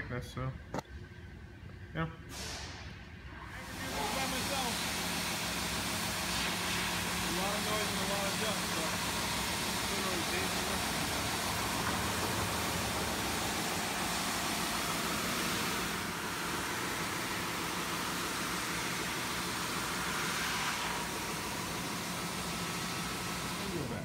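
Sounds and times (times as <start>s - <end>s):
drum sander running: 3.5s - 24.0s.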